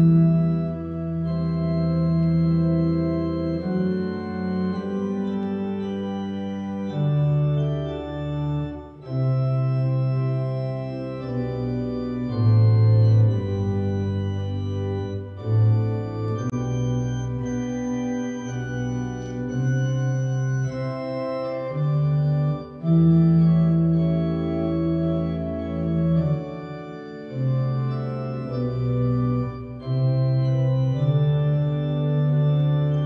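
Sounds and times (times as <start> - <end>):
church organ chords: 0.0 - 33.0.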